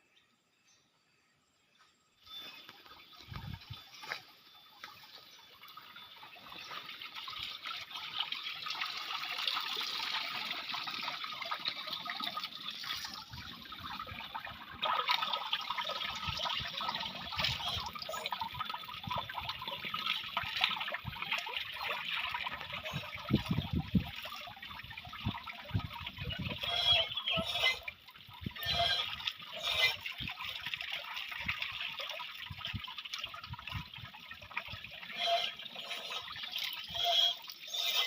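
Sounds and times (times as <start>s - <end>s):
water running and trickling: 2.5s - 38.0s.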